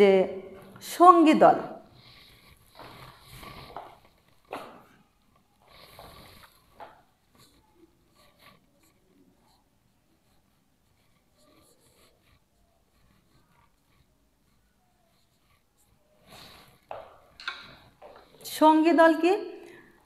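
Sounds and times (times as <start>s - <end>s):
marker squeaking on whiteboard: 2.0s - 18.4s.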